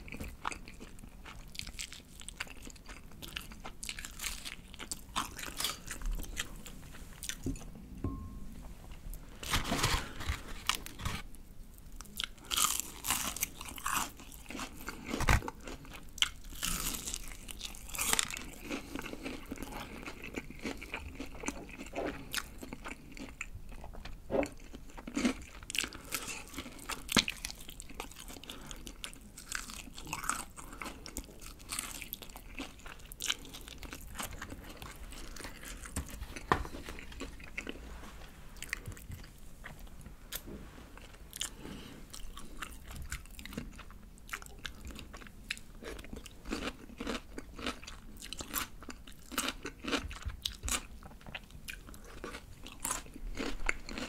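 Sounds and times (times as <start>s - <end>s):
crunching fried chicken: 0.0s - 6.5s, 12.0s - 37.8s, 41.4s - 54.0s.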